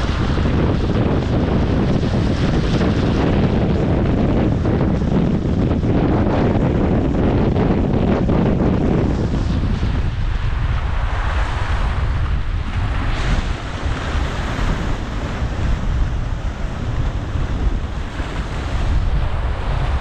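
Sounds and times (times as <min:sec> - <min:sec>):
waves breaking on rocky shore: 0:00.0 - 0:20.0
wind buffeting microphone: 0:00.0 - 0:20.0.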